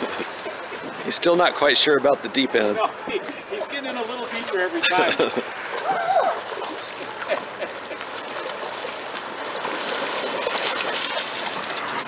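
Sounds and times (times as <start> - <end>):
dogs splashing through water: 0.0 - 12.0.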